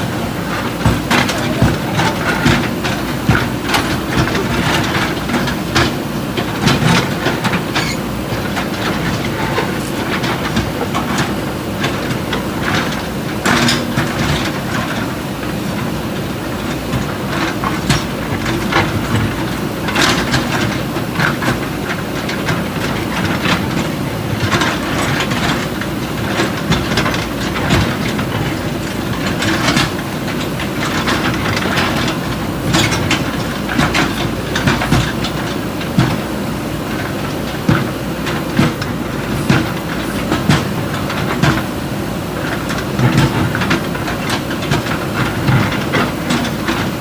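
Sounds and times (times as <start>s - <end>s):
diesel engines running: 0.0s - 47.0s
buckets clanking on concrete rubble: 0.4s - 47.0s.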